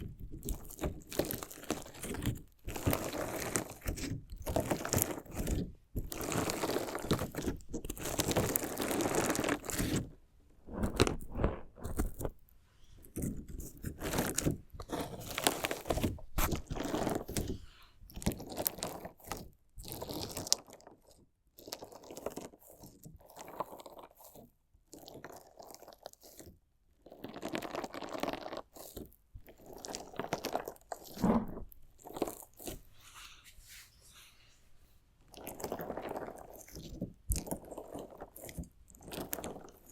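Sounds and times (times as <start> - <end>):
slime crunching and crackling: 0.0 - 12.4, 13.0 - 32.9, 35.3 - 39.9.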